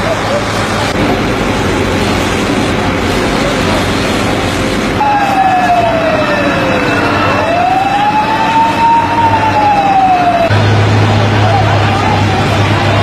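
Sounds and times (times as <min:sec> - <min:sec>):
fire engine siren wailing: 0:00.0 - 0:13.0
steady noisy background: 0:00.0 - 0:13.0.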